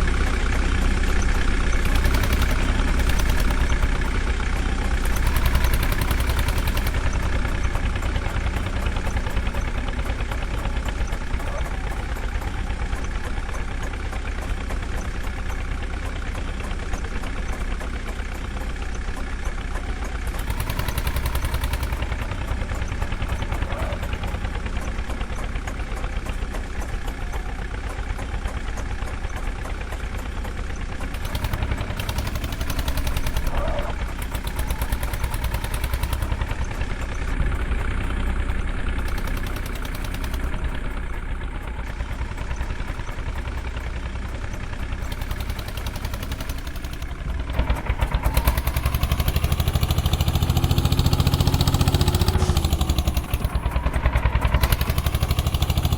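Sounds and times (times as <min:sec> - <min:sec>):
diesel engines rumbling: 0:00.0 - 0:55.9.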